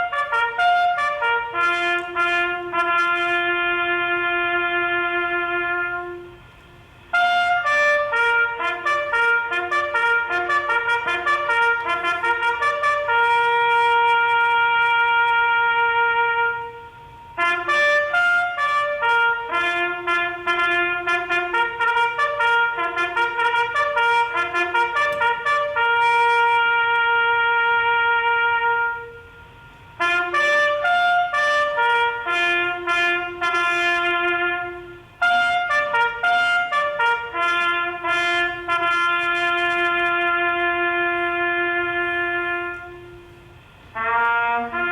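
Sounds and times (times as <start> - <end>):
solo brass instrument melody: 0.0 - 44.9.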